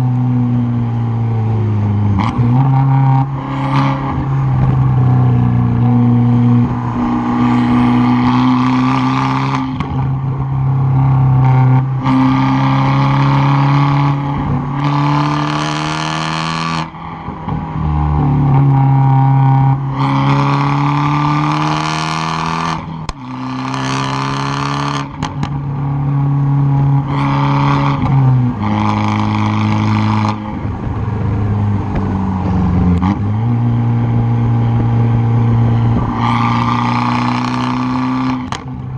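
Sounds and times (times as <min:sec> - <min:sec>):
car exhaust accelerating hard: 0:00.0 - 0:38.9.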